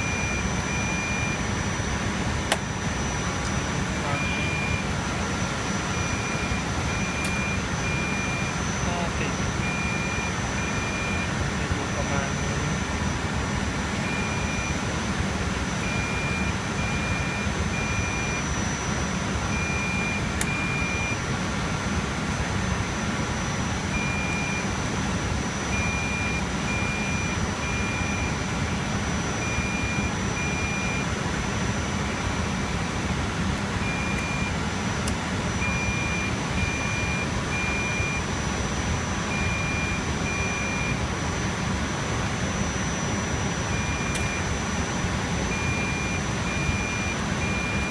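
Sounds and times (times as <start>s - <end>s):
server cooling fans whirring: 0.0s - 47.9s.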